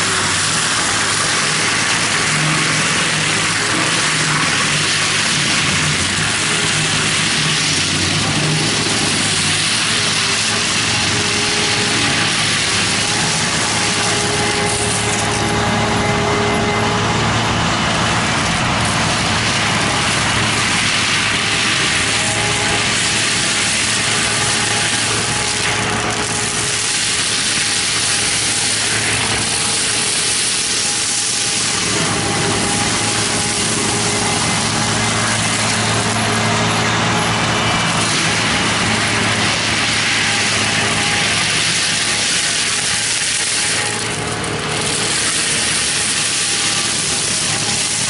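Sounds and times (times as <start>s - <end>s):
diesel engine running: 0.0s - 48.0s
machine crunching wood: 0.0s - 48.0s.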